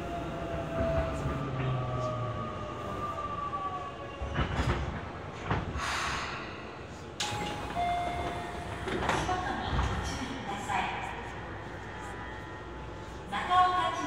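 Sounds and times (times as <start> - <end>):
subway car low rumble: 0.0 - 14.0.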